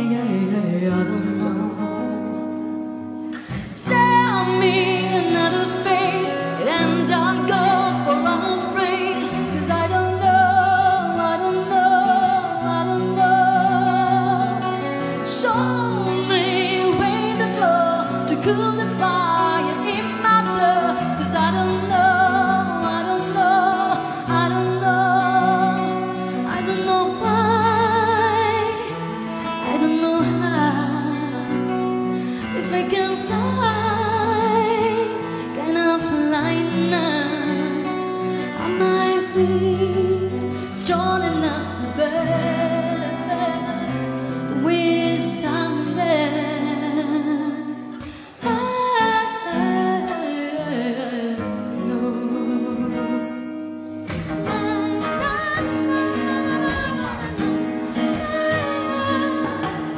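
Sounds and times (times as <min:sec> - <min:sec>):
fingerpicked acoustic guitar: 0:00.0 - 0:59.9
woman singing with vibrato: 0:00.0 - 0:59.9.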